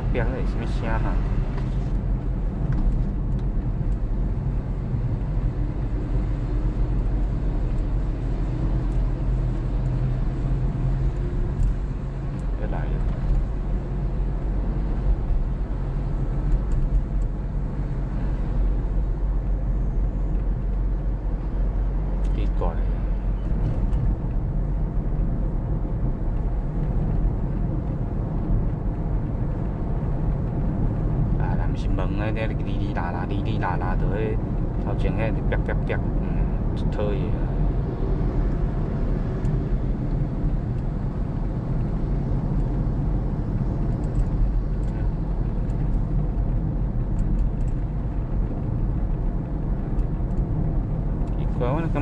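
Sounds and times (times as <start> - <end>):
car drone from inside cabin: 0.0 - 52.0.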